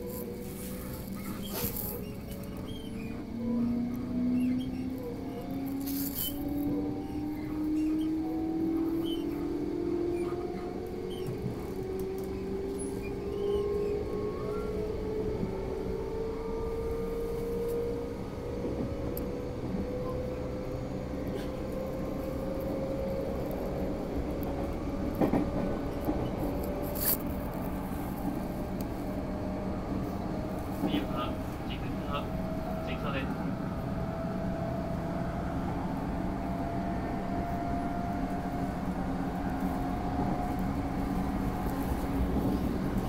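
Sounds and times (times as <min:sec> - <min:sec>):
train traction motors whining: 0:00.0 - 0:43.0
wheels rumbling on rails: 0:00.0 - 0:43.0.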